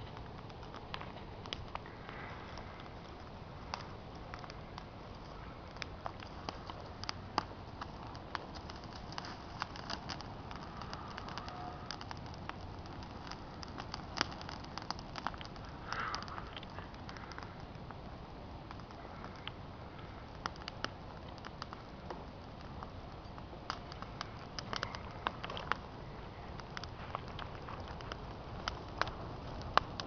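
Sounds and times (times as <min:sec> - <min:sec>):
bonfire crackling and popping: 0:00.0 - 0:30.0
steady background hiss: 0:00.0 - 0:30.0.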